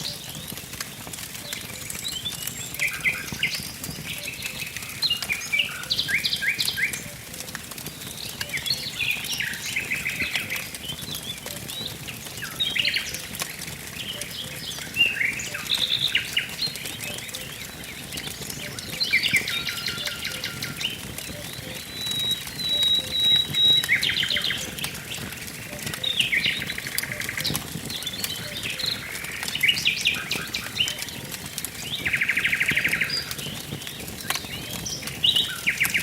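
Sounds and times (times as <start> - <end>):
songbirds trilling: 0.0 - 36.0
wood fire crackling: 0.0 - 36.0.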